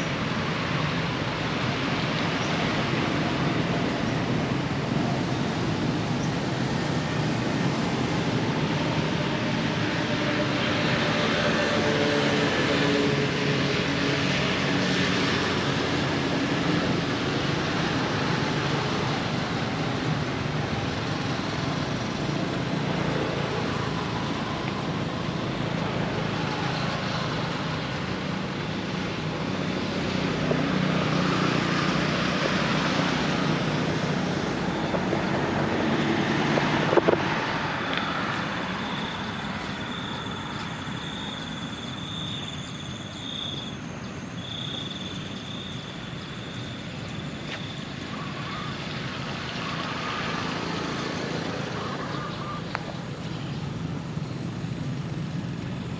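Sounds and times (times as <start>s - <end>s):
passing vehicle engine hum: 0.0s - 55.9s
road traffic: 0.0s - 55.9s.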